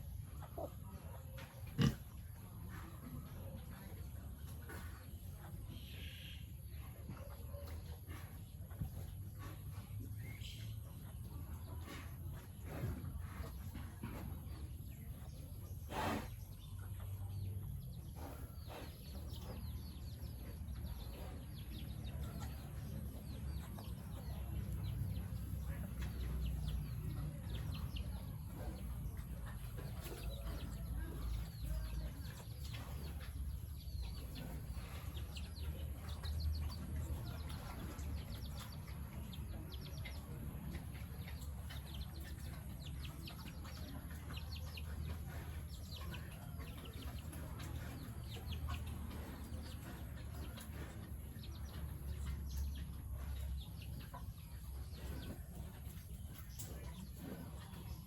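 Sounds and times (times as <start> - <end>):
chickens clucking: 0.0 - 58.0
steady low hum: 0.0 - 58.0.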